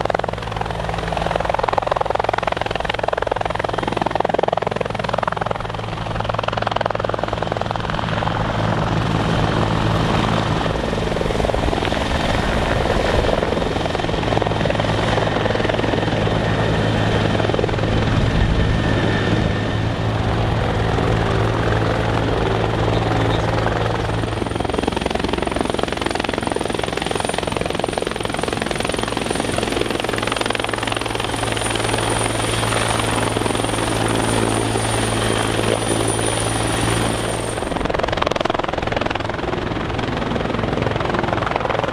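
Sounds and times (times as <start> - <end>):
helicopter rotor beat: 0.0 - 41.9
high turbine whine: 0.0 - 41.9.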